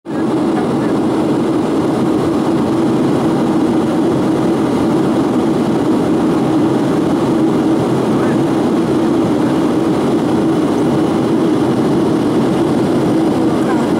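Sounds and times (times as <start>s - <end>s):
airplane cabin drone: 0.1s - 13.9s.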